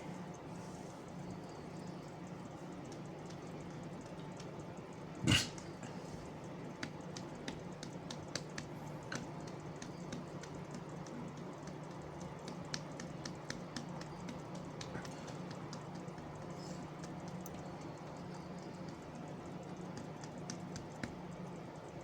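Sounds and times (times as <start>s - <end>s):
faint light taps and clicks: 0.9s - 5.0s, 6.2s - 22.0s.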